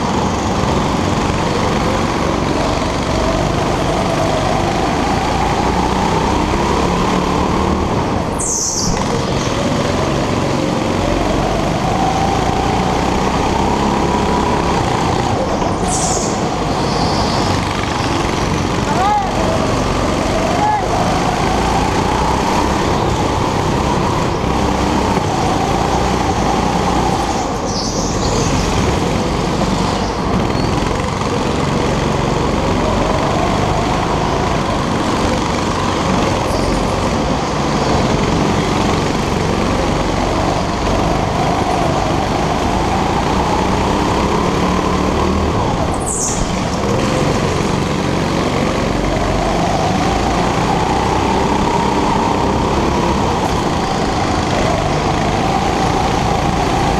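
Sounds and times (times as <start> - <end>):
go-kart engine revving: 0.0 - 56.9.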